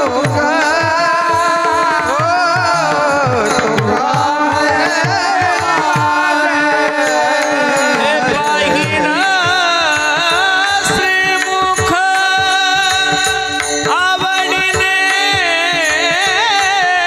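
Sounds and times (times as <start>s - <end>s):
person singing ornamented notes: 0.0s - 17.0s
steady held accompaniment: 0.0s - 17.0s.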